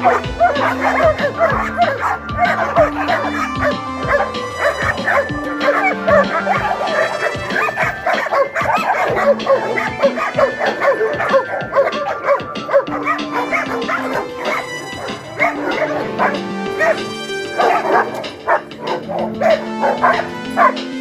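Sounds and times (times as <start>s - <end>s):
music of long held chords: 0.0s - 21.0s.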